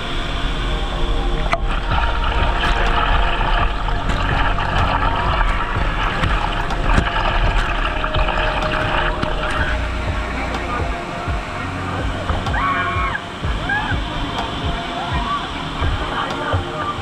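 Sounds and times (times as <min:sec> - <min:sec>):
waterfall crashing and splashing: 0:00.0 - 0:17.0.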